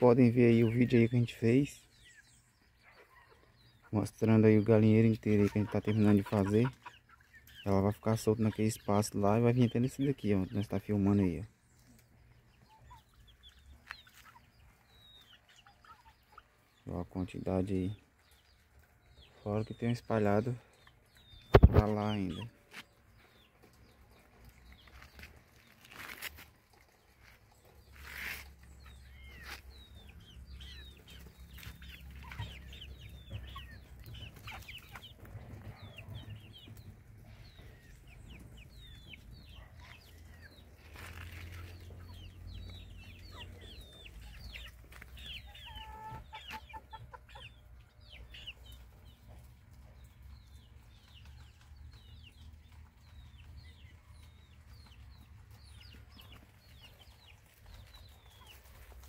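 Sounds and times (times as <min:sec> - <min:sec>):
chickens clucking: 0:00.0 - 0:59.0
chicks peeping: 0:00.0 - 0:59.0.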